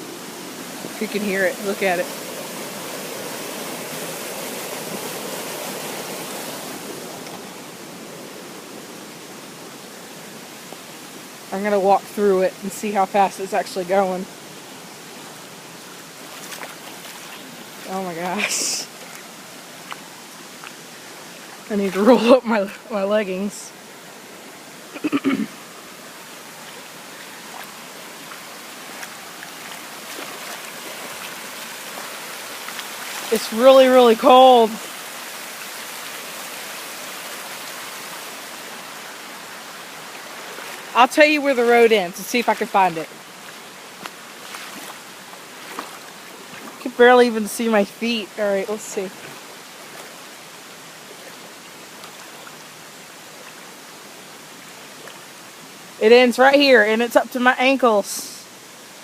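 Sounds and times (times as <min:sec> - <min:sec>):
faint water splashes: 0:00.0 - 0:59.0
floodwater rushing over road: 0:00.0 - 0:59.0.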